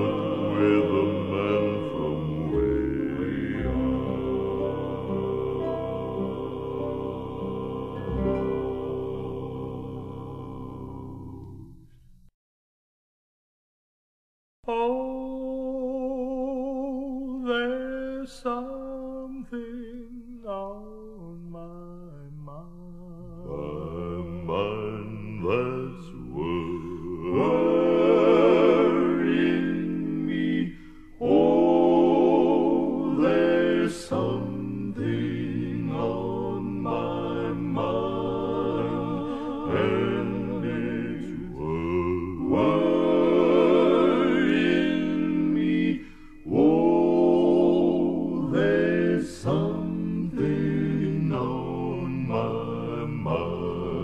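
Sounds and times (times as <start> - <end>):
male vocal quartet singing: 0.0 - 11.7, 14.7 - 20.8, 23.4 - 54.0.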